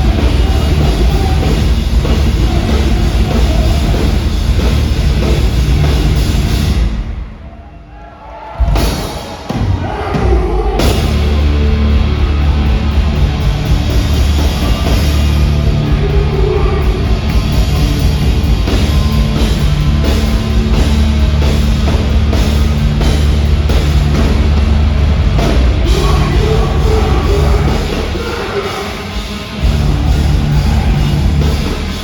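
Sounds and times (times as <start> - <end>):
fast hard-hit drums: 0.0 - 7.3, 8.6 - 32.0
distorted guitars and bass: 0.0 - 7.4, 10.7 - 32.0.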